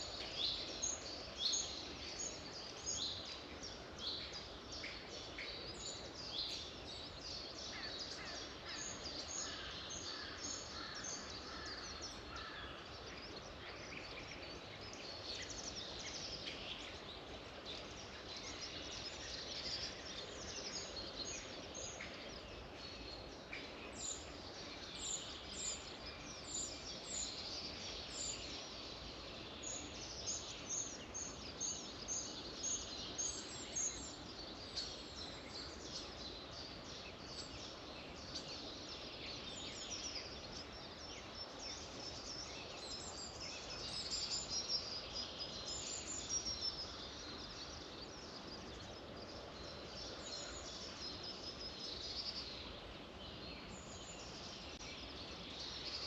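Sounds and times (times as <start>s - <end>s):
background hiss: 0.0s - 56.0s
songbirds chirping and warbling: 0.0s - 56.0s.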